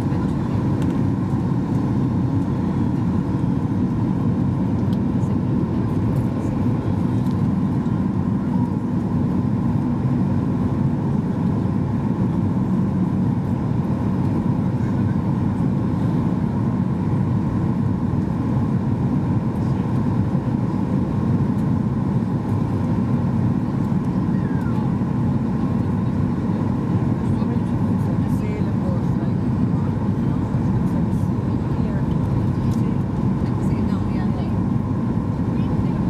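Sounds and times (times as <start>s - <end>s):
aircraft cabin engine rush: 0.0s - 36.0s.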